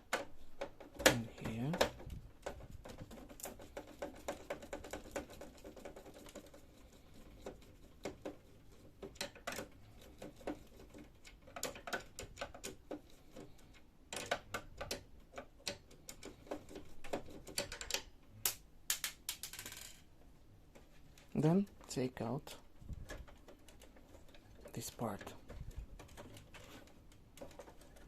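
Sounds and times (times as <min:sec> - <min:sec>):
small parts clicking on plastic: 0:00.0 - 0:20.0, 0:22.8 - 0:28.0.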